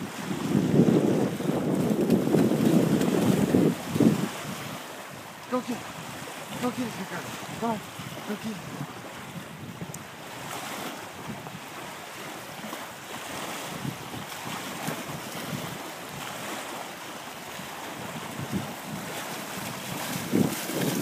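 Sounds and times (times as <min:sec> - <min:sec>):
small waves washing in shallows: 0:00.0 - 0:21.0
wind buffeting microphone: 0:00.0 - 0:21.0.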